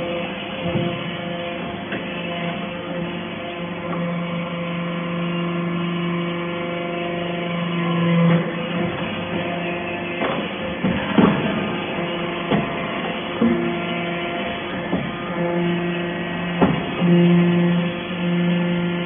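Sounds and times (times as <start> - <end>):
baler machine humming: 0.0 - 19.0.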